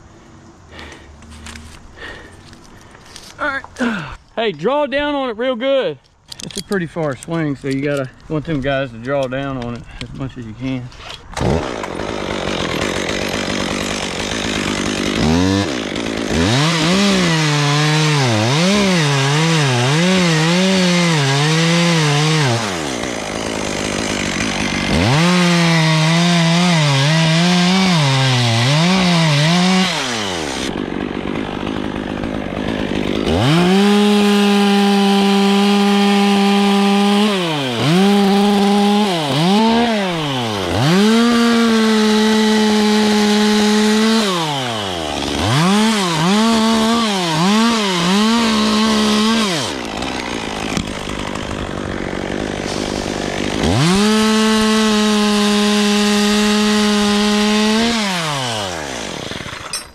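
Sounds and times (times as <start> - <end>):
chainsaw cutting wood: 0.7 - 4.0, 10.6 - 59.9.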